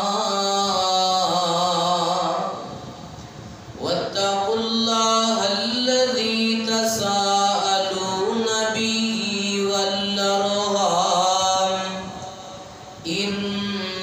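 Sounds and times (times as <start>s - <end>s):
man chanting into a microphone: 0.0s - 3.0s, 3.8s - 14.0s.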